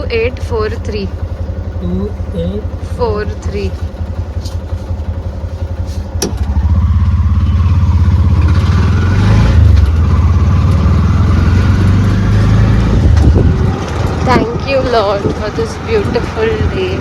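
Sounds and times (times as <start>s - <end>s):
small engine chugging and revving: 0.0s - 17.0s.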